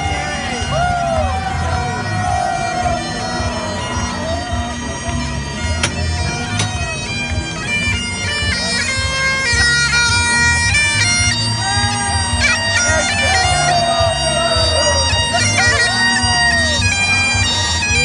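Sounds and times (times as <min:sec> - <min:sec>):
bagpipes playing a tune: 0:00.0 - 0:18.0.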